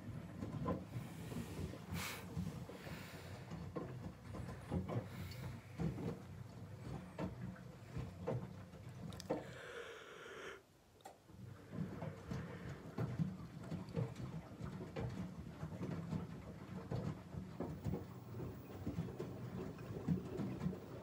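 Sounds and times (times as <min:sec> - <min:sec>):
laundry tumbling in drum: 0:00.0 - 0:09.1, 0:11.3 - 0:21.0
washing machine motor hum: 0:00.0 - 0:10.0, 0:11.2 - 0:21.0.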